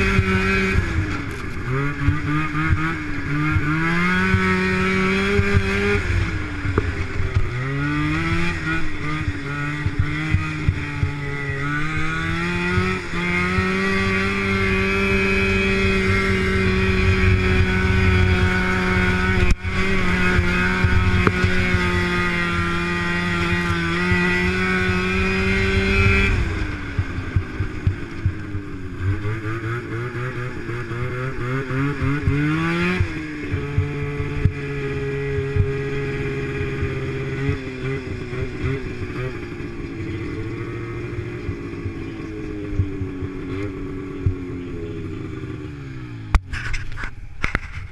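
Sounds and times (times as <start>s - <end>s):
snowmobile engine running: 0.0s - 47.9s.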